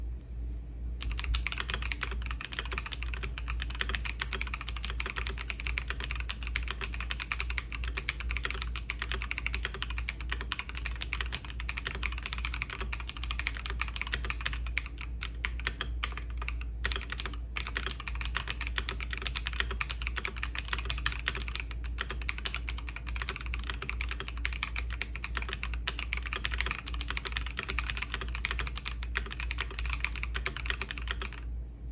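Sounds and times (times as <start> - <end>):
fast mechanical keyboard typing: 1.0 - 31.5.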